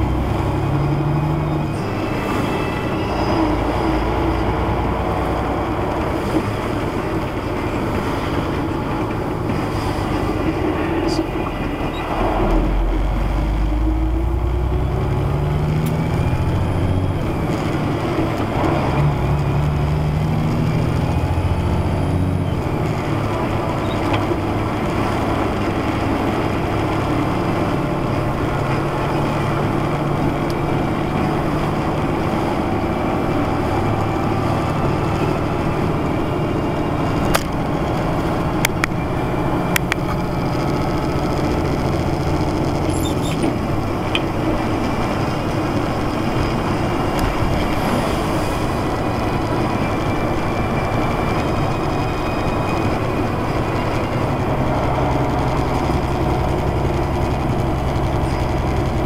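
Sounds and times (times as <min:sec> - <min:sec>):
truck diesel engine drone: 0:00.0 - 0:59.0.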